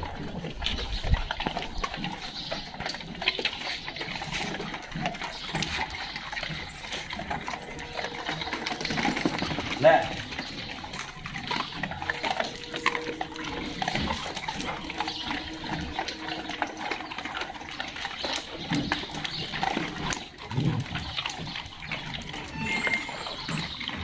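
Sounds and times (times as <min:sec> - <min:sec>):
dogs whining: 0:00.6 - 0:24.0.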